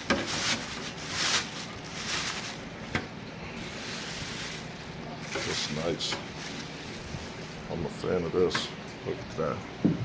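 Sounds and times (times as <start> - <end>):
plastic packaging rustling: 0.0 - 8.5.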